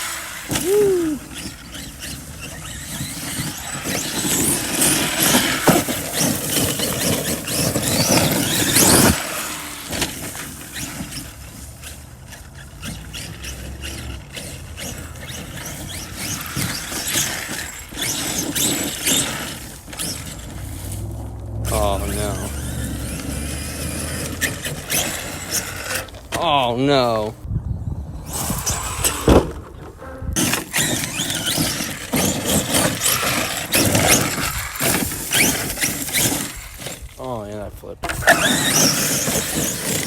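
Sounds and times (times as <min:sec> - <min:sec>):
electric motor whining: 0:00.0 - 0:26.3, 0:28.1 - 0:37.2
tyres on dirt: 0:00.0 - 0:40.0.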